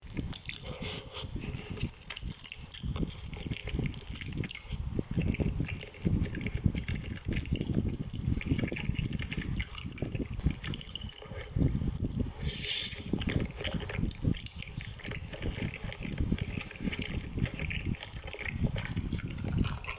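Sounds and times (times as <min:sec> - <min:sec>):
person chewing: 0:00.0 - 0:19.9.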